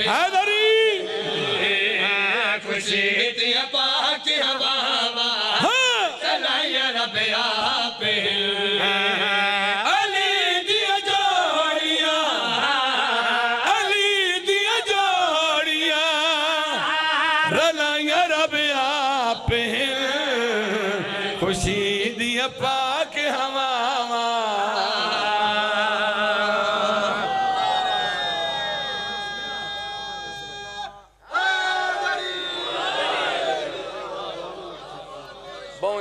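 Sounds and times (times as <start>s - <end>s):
men chanting over microphones: 0.0s - 36.0s.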